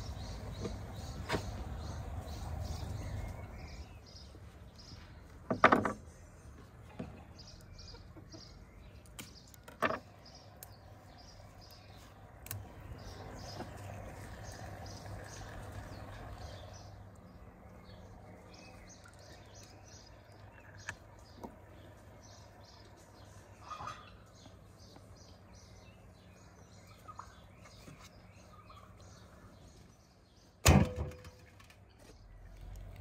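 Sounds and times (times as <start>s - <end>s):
small birds chirping: 0.0s - 30.6s.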